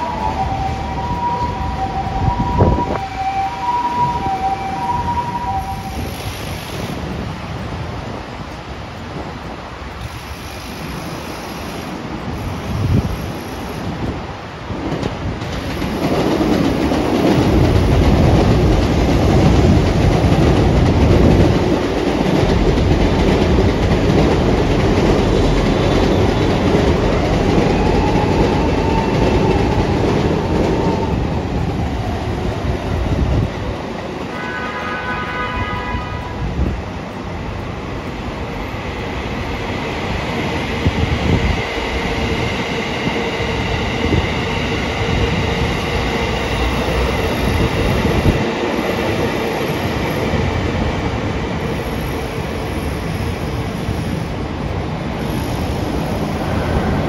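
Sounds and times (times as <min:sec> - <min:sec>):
train wheels on track: 0:00.0 - 0:57.0.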